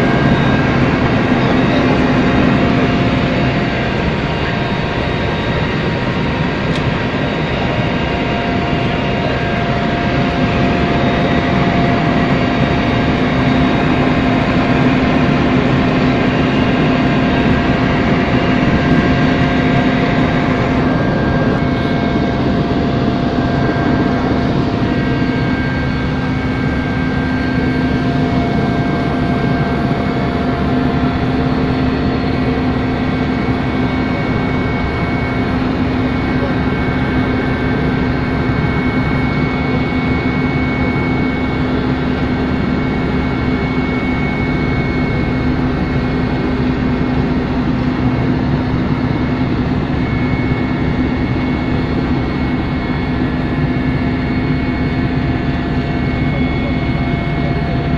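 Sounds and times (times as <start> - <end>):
helicopter cabin noise: 0.0 - 57.9.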